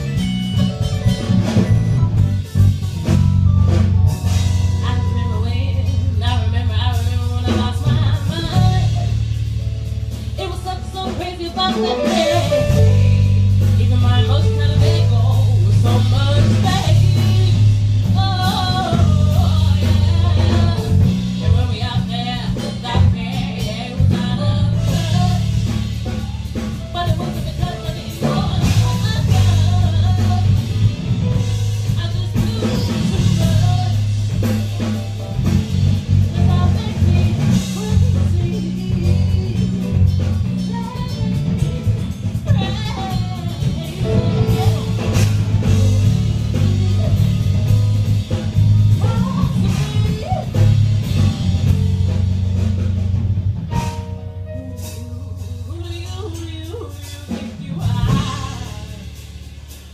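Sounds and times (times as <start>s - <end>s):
bending lead melody: 0.0s - 59.8s
piano chords: 0.0s - 59.8s
bass: 0.0s - 59.9s
drum kit: 0.0s - 59.9s.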